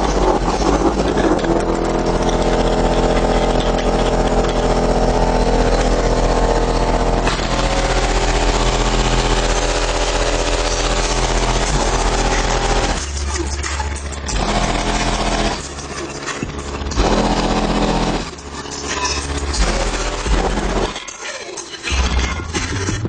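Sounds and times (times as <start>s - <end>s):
bass-heavy electronic music: 0.0s - 23.0s.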